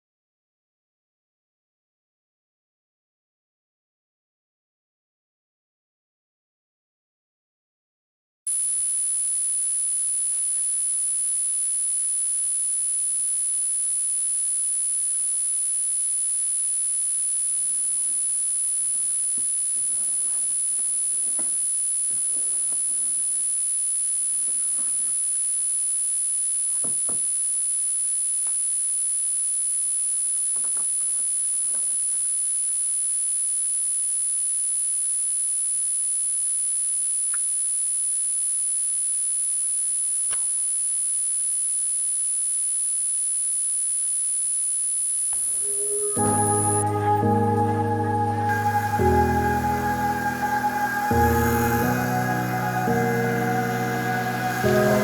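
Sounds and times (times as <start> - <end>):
high-pitched whine: 8.5 - 55.0.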